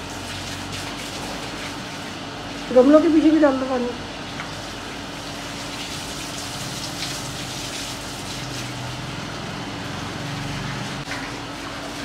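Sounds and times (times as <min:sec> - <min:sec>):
hose water splashing: 0:00.0 - 0:12.0.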